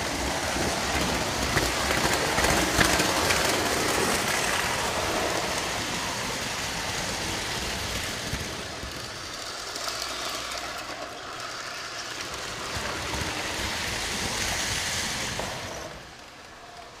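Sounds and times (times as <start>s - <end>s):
model train wheels rattling: 0.0s - 17.0s.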